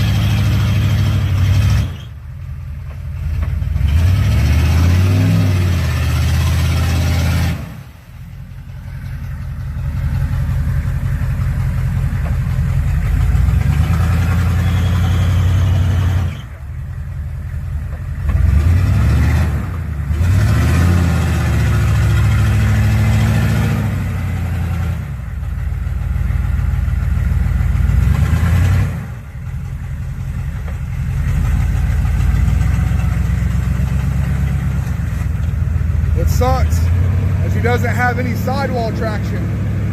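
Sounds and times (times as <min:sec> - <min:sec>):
engine revving and straining: 0:00.0 - 0:02.2, 0:02.9 - 0:39.9.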